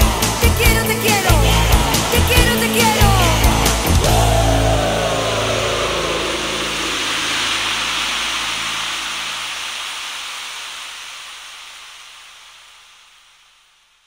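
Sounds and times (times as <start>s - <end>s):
hissing wash of noise: 0.0s - 14.0s.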